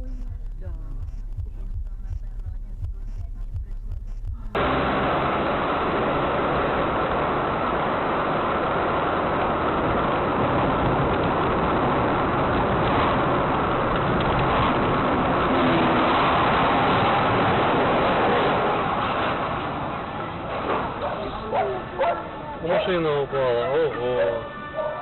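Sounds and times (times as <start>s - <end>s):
vehicle driving noise: 0.0s - 25.0s.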